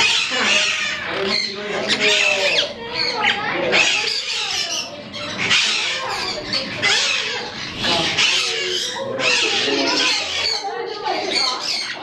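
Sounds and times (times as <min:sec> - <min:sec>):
parrots calling harshly: 0:00.0 - 0:12.0.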